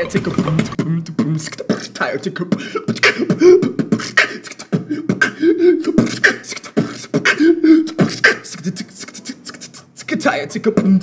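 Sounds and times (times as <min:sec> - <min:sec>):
beatboxing drum clicks and snares: 0:00.0 - 0:11.0.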